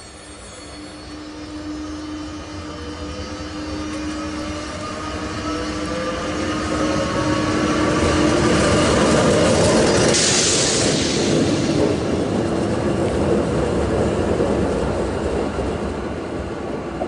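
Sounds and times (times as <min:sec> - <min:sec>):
electric locomotive whine: 0:00.0 - 0:17.0.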